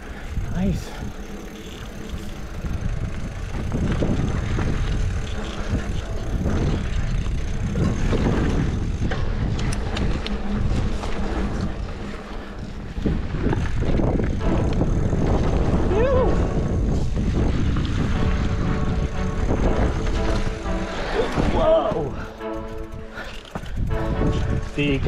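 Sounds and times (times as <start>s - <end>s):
bike clicks and rattles: 0.0s - 20.6s, 21.9s - 24.9s
wind buffeting microphone: 0.0s - 25.0s.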